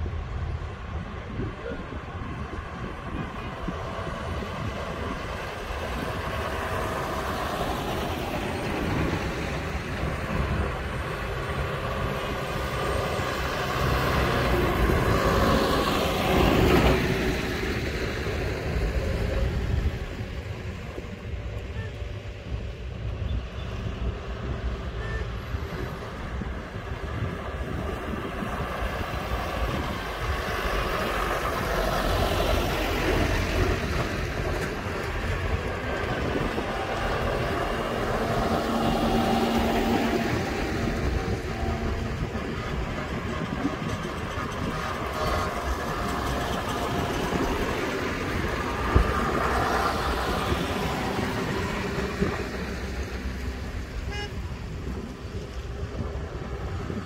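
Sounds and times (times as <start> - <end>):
tractor diesel engines driving past: 0.0 - 57.0.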